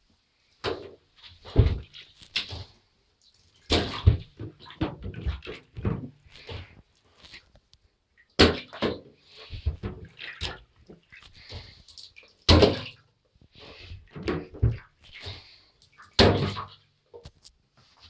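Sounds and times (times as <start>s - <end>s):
water splashing in bathtub: 0.7s - 7.5s, 8.2s - 17.2s.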